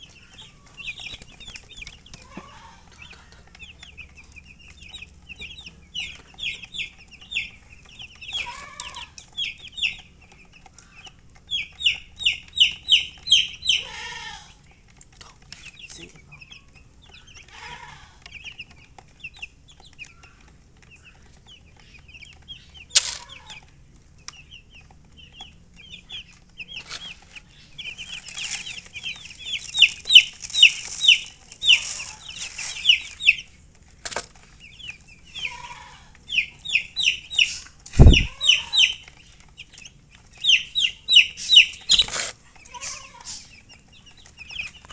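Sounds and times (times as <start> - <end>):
baby chicks peeping: 0.0 - 44.9
hen clucking: 0.0 - 44.9.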